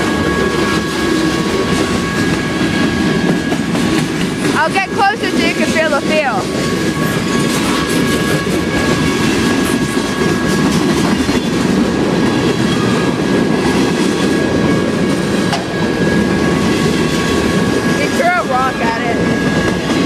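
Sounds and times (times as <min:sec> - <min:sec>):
train wheels rumbling and clacking: 0:00.0 - 0:20.0.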